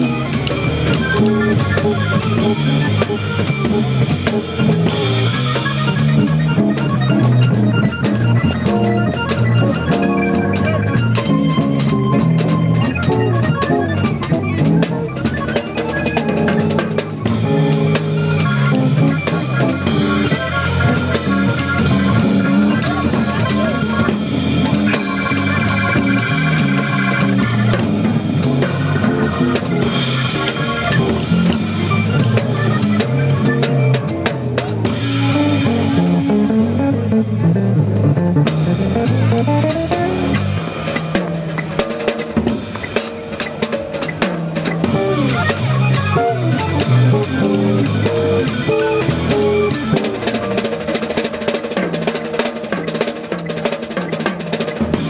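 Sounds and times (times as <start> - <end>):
drum kit playing: 0.0 - 55.0
guitar and bass music: 0.0 - 55.0.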